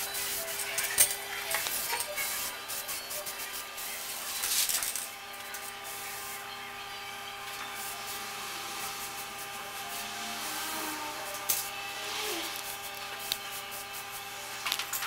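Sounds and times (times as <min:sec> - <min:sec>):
background hum with tones: 0:00.0 - 0:15.0
spray paint can hissing: 0:01.5 - 0:06.4, 0:07.7 - 0:14.9.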